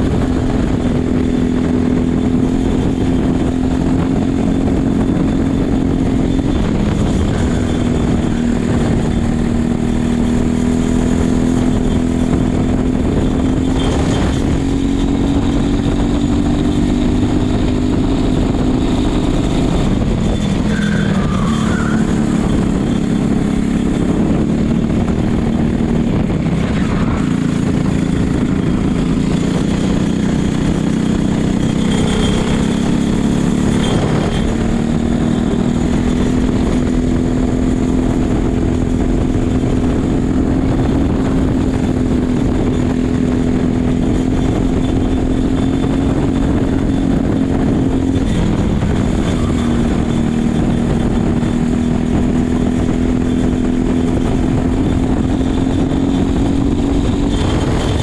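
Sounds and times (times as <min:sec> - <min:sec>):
kart engine running: 0:00.0 - 0:58.0.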